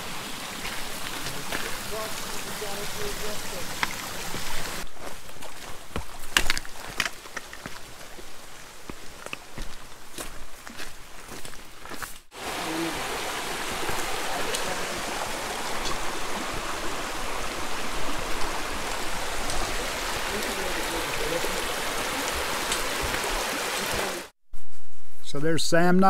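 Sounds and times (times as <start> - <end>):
creek running over rocks: 0.0 - 24.3.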